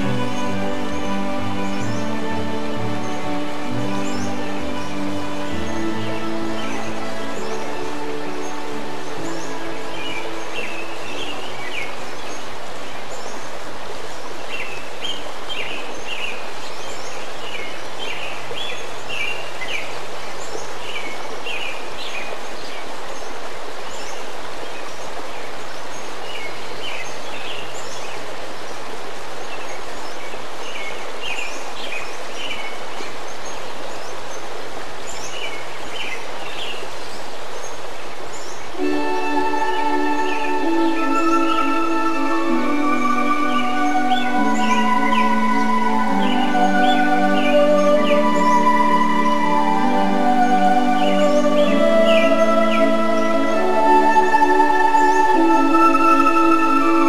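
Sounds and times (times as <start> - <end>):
running water rushing: 0.0 - 57.0
small birds chirping: 0.0 - 57.0.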